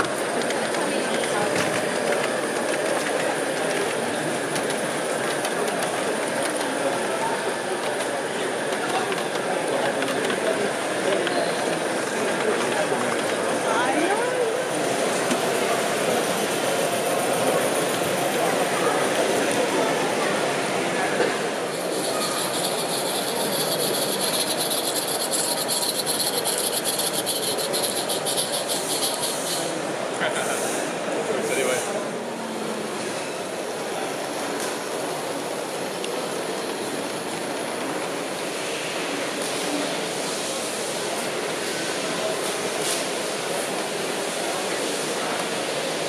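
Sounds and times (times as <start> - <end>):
hall background noise: 0.0 - 46.0
model train rolling rumble: 0.0 - 46.0.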